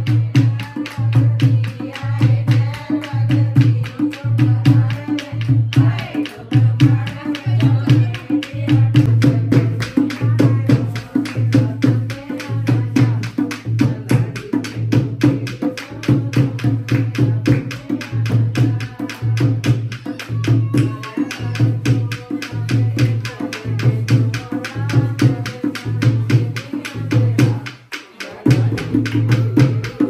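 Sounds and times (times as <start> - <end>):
hand drum in fast rhythm: 0.0 - 30.0
hand claps: 0.1 - 30.0.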